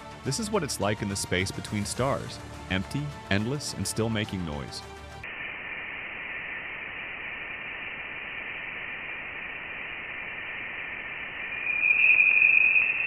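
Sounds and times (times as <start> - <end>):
static hiss: 0.0 - 13.0.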